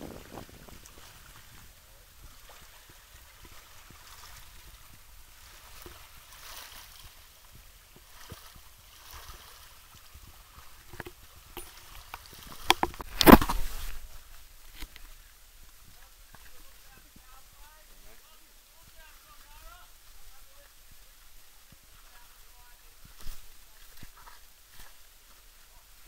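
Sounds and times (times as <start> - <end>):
small waves lapping at shore: 0.0 - 26.0.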